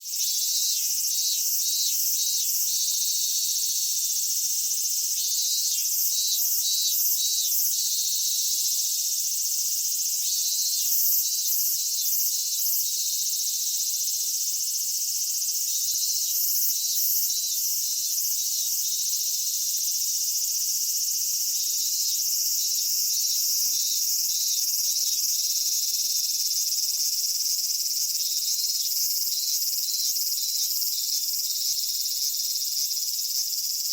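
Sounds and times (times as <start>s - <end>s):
cicadas buzzing: 0.0s - 33.9s.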